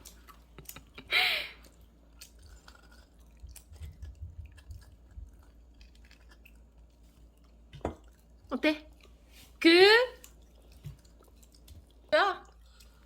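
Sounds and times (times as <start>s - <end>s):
chewing bread: 0.0s - 13.0s.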